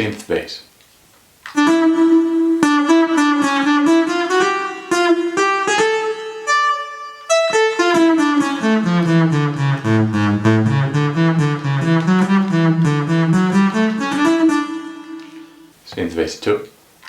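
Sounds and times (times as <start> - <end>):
plucked synth bass notes: 1.6 - 15.7.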